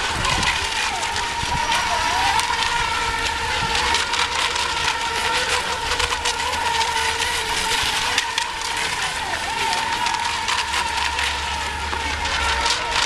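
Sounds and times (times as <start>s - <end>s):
model boat motors whining: 0.0s - 13.0s
water rushing and splashing: 0.0s - 13.0s.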